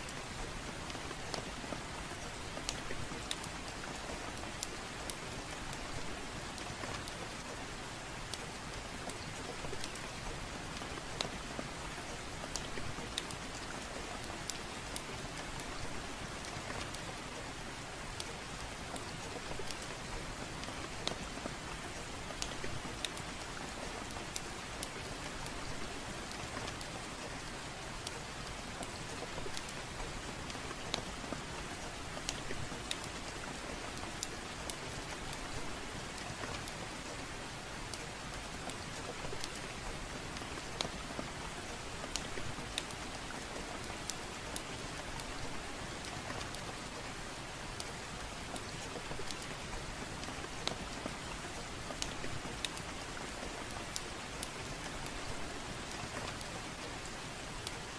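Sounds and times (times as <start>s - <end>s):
soft rain falling: 0.0s - 57.9s
wood fire crackling: 0.0s - 57.9s.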